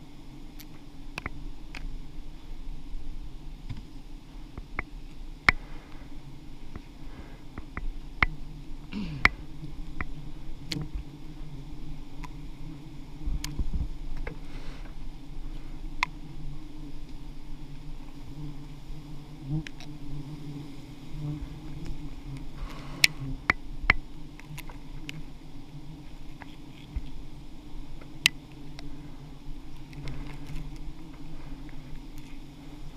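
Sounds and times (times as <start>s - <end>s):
bees buzzing: 0.0s - 32.9s.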